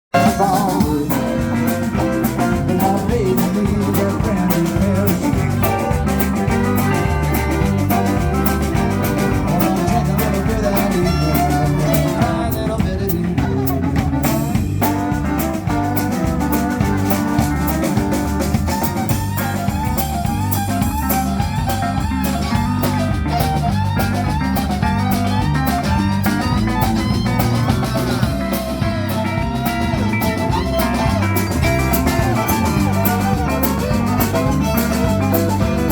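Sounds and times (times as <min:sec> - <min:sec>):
drum kit: 0:00.0 - 0:35.9
electric bass: 0:00.1 - 0:35.9
guitars: 0:00.1 - 0:35.9
fiddle: 0:00.2 - 0:35.9.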